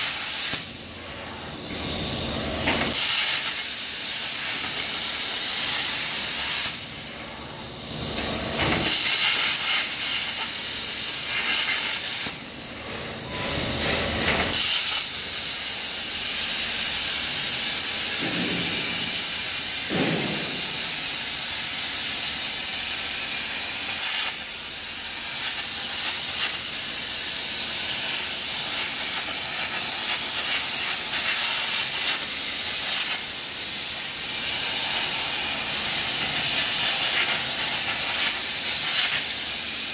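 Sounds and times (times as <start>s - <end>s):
plasma torch arc hissing: 0.0s - 39.9s.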